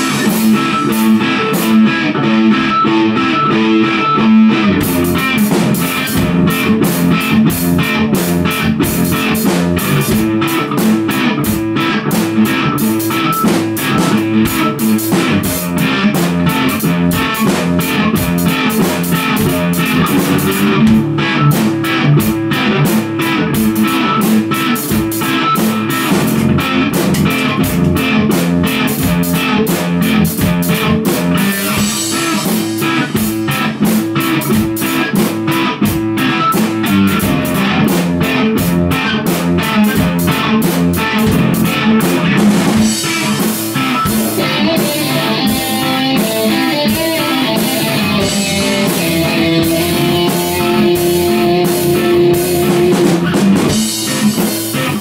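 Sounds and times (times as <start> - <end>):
drum kit with cymbals: 0.0 - 55.0
electric guitar through an amp: 0.0 - 55.0.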